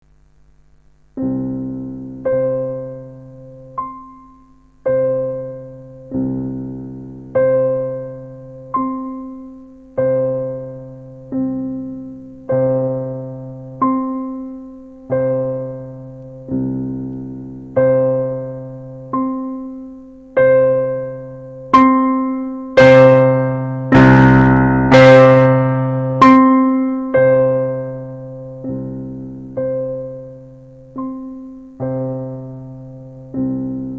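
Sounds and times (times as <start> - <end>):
piano chords: 1.2 - 33.9.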